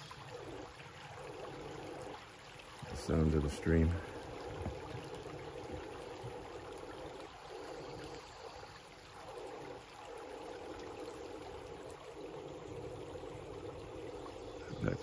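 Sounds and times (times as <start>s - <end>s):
stream trickling over stones: 0.0s - 15.0s.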